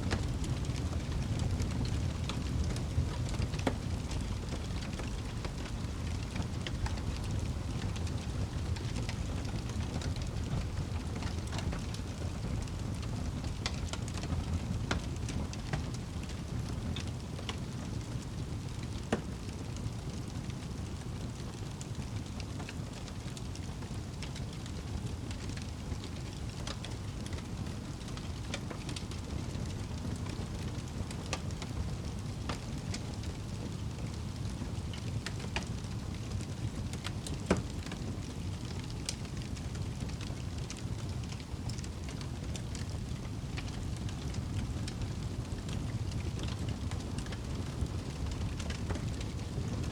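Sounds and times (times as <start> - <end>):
fire crackling and popping: 0.0 - 49.9
fire flames rumbling: 0.0 - 49.9.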